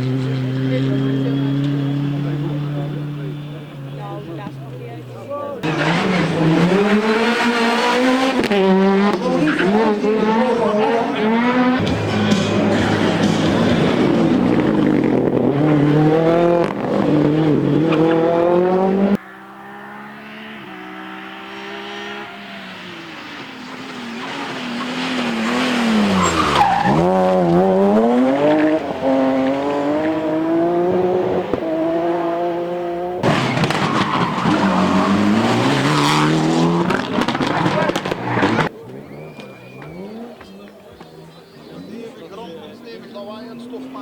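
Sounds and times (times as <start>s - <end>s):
rally car engine at full throttle: 0.0s - 44.0s.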